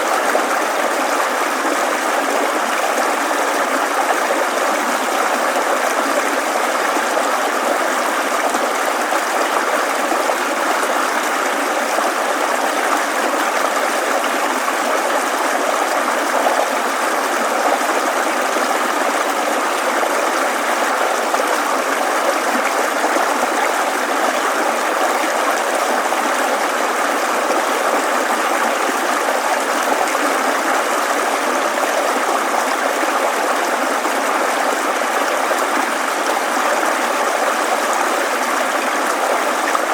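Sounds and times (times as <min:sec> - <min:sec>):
mountain stream babbling: 0:00.0 - 0:39.9.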